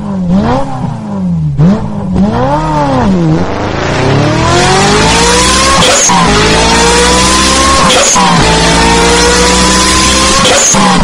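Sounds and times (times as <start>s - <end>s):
sports car engine revving: 0.0s - 11.0s.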